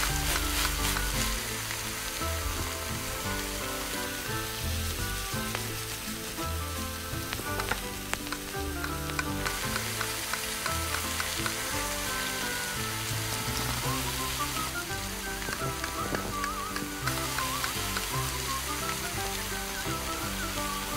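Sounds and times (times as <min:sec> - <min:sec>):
food sizzling in pot: 0:00.0 - 0:20.9
soft background music: 0:00.0 - 0:20.9.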